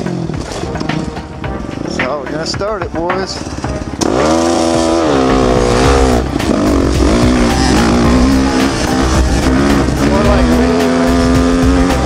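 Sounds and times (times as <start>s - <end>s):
dirt bike engine accelerating: 0.0s - 12.0s.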